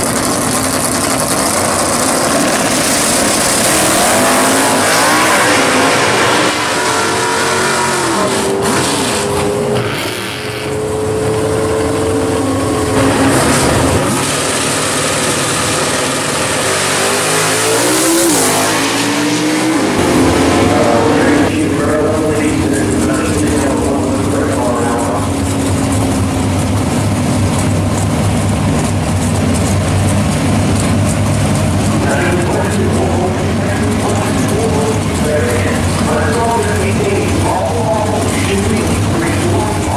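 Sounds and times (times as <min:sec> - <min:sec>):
car engine revving: 0:00.0 - 0:39.9
drag car engines at full throttle: 0:00.0 - 0:39.9.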